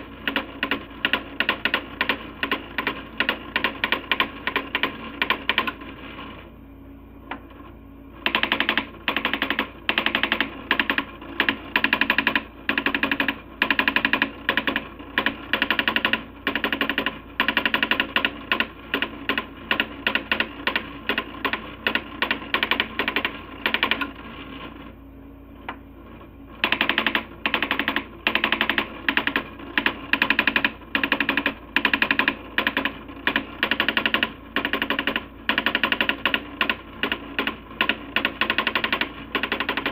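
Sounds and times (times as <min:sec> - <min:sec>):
daisy wheel printer hammering: 0:00.0 - 0:06.0, 0:08.2 - 0:24.2, 0:26.6 - 0:39.9.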